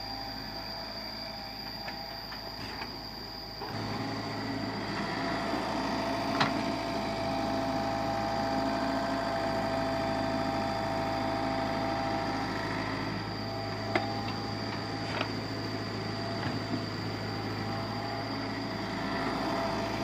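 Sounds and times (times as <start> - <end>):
motor humming: 0.0 - 20.0.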